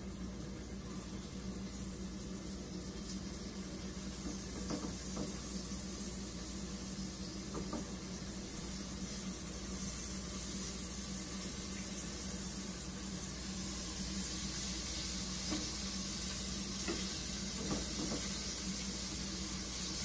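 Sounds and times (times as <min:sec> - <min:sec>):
liver sizzling in hot oil: 0:00.0 - 0:20.0.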